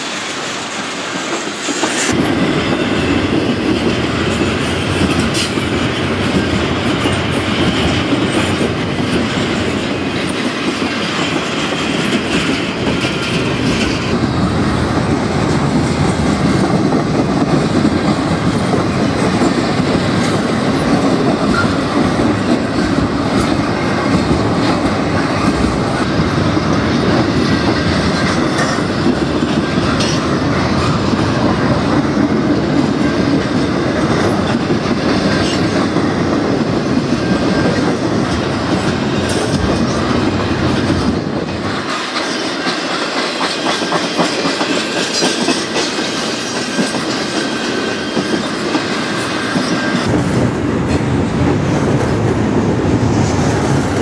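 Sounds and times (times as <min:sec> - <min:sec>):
freight train rumbling past: 0:00.0 - 0:54.0
wheels clacking over rail joints: 0:00.0 - 0:54.0.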